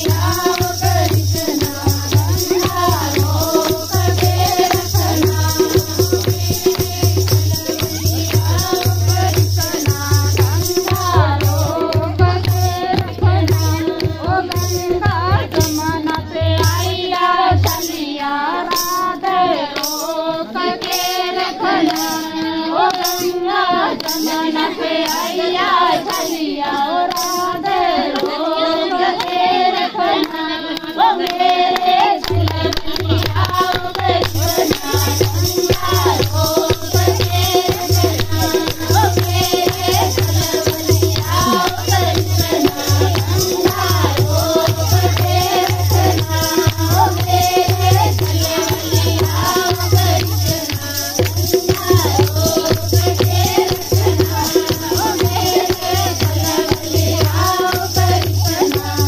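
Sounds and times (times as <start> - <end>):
hand-clapping: 0.0 - 59.0
women singing folk song: 0.0 - 59.0.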